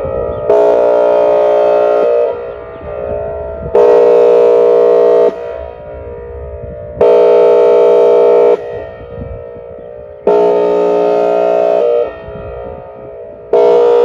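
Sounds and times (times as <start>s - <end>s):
siren echo: 0.0s - 14.0s
warning siren horn blasts: 0.0s - 14.0s.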